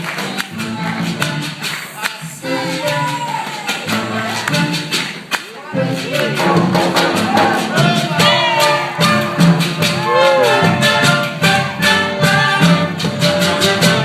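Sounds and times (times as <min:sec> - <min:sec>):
latin percussion beat: 0:00.0 - 0:14.0
band with brass melody: 0:02.4 - 0:14.0.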